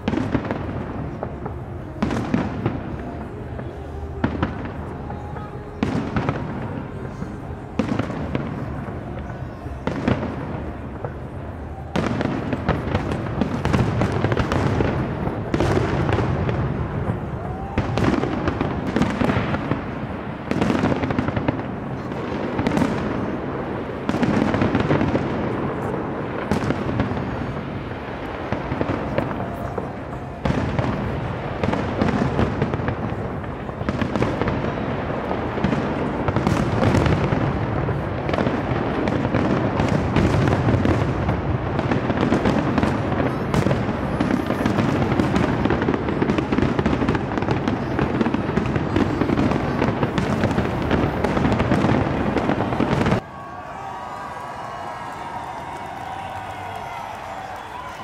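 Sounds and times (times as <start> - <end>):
firework bangs with crackle: 0.0 - 53.4.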